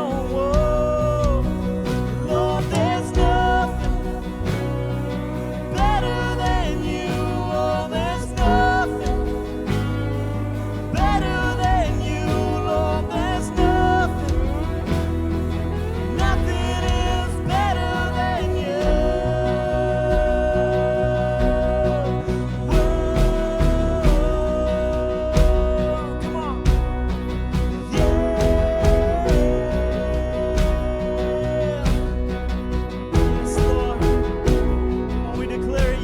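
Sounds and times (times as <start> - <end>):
worship band music: 0.0 - 36.0.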